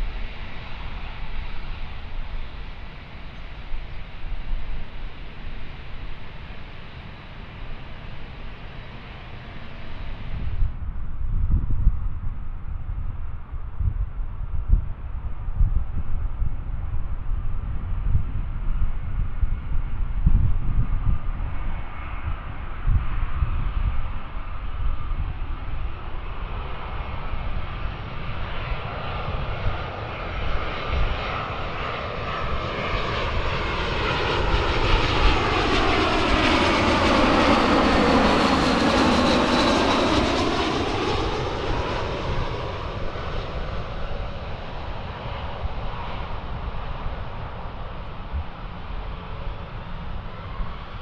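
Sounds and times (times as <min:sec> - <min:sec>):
gusty low rumble: 0:00.0 - 0:51.0
jet airliner passing by: 0:00.0 - 0:51.0.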